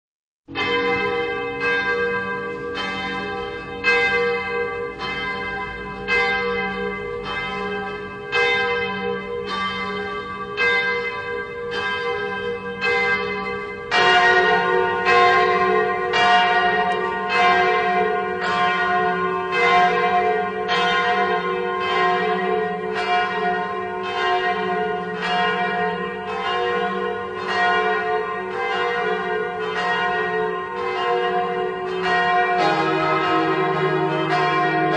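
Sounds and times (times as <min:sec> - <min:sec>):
church bells pealing: 0:00.5 - 0:34.9.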